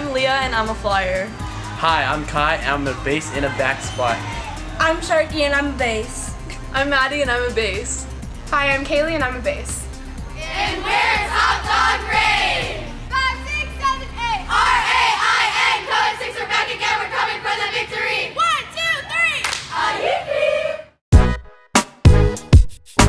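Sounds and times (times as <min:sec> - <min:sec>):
background music: 0:00.0 - 0:16.7, 0:21.2 - 0:23.0
cheerleaders chanting in unison: 0:00.0 - 0:21.0.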